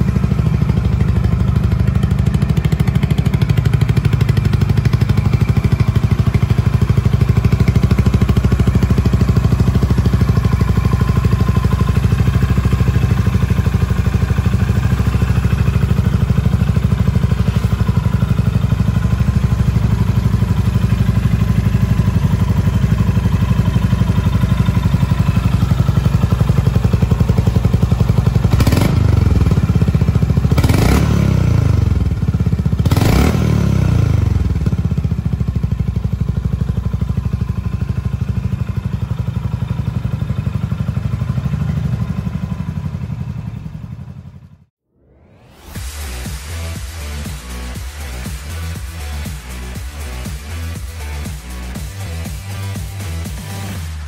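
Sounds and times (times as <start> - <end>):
engine revving: 0.0 - 35.1, 44.9 - 54.0
motorcycle engine idling: 0.0 - 44.7.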